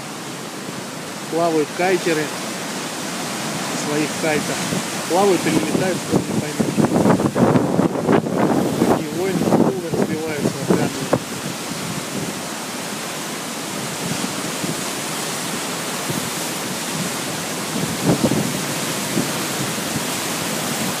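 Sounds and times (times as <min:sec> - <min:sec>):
surf breaking over rocks: 0:00.0 - 0:21.0.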